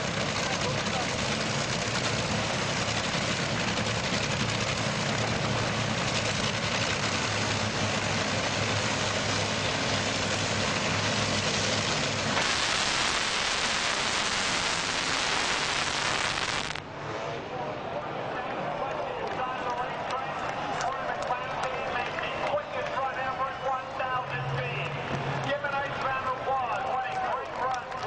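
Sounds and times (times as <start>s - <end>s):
dragster engines rumbling: 0.0s - 28.0s.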